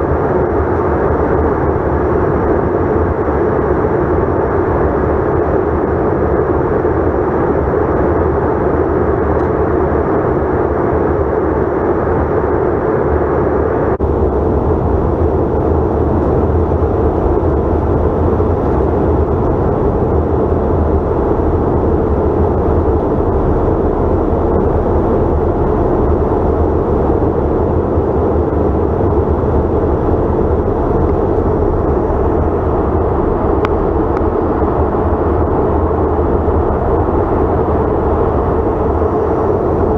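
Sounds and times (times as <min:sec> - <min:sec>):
jet engine cabin noise: 0:00.0 - 0:39.9.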